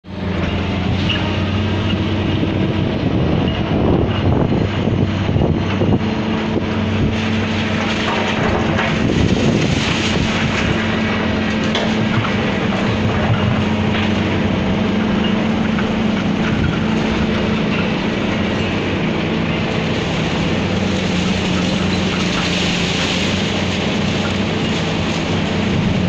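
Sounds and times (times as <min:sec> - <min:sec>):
excavator diesel engine droning: 0:00.0 - 0:26.0
demolition crackles and knocks: 0:00.1 - 0:26.0.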